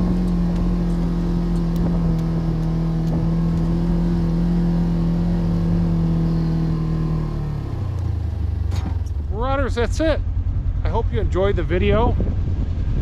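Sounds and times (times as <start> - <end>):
side-by-side vehicle engine running: 0.0 - 13.0.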